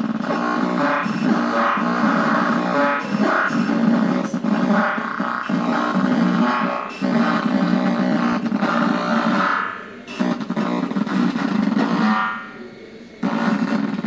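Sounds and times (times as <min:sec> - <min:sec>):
distorted electronic buzzing drone: 0:00.0 - 0:14.0
high electronic tone: 0:00.0 - 0:14.0.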